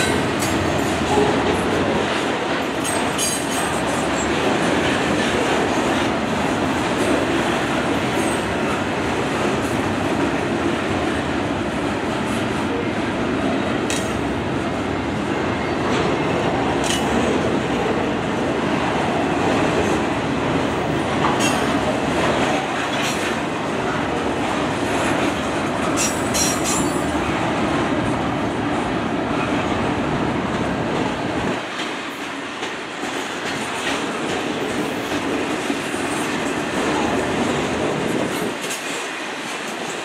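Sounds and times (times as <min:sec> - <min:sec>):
freight train wheels rumbling on rails: 0:00.0 - 0:40.0.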